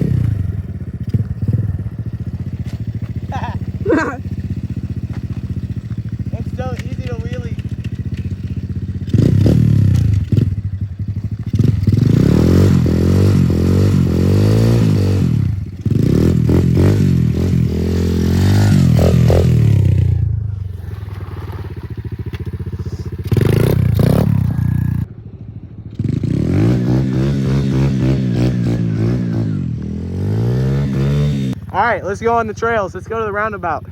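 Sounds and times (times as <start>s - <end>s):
dirt bike engine revving: 0.0s - 25.1s, 25.9s - 33.8s.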